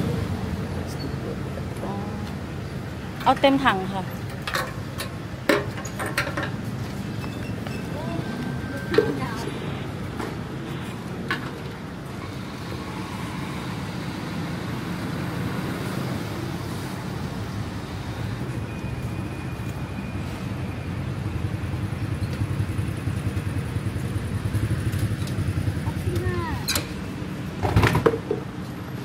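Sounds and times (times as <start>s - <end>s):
road traffic noise: 0.0s - 29.0s
vehicle engine rumbling: 0.0s - 29.0s.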